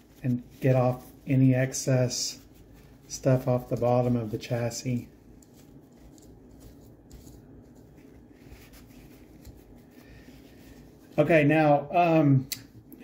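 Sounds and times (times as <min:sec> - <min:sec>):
paper towel rubbing plastic: 0:00.0 - 0:11.8.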